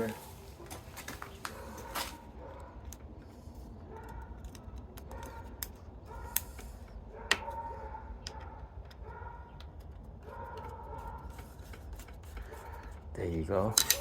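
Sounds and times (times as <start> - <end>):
metal clicks and scraping: 1.5 - 14.0.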